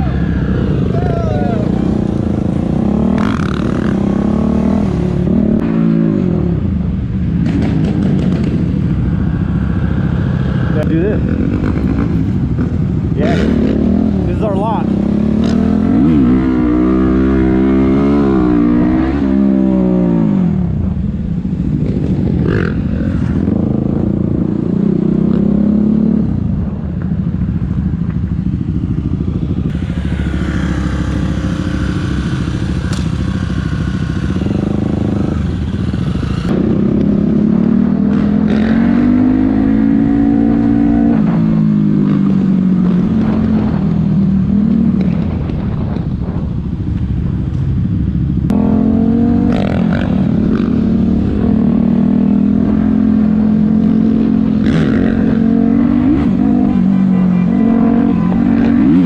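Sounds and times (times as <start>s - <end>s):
motorcycle engine revving: 0.0s - 26.7s, 27.7s - 46.4s, 47.8s - 59.0s.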